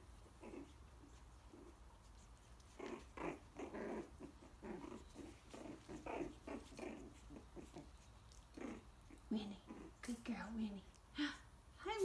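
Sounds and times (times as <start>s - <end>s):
puppies growling: 0.0s - 10.3s.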